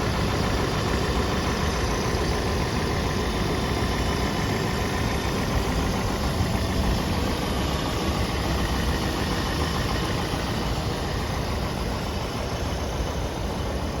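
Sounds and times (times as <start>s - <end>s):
car engine running steadily: 0.0s - 14.0s.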